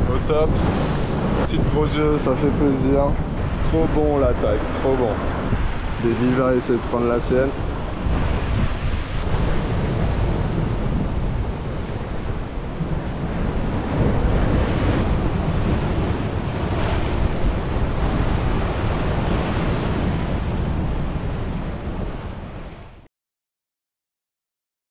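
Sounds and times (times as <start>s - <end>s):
wind buffeting microphone: 0.0s - 23.0s
sea waves breaking on rocks: 0.1s - 22.3s.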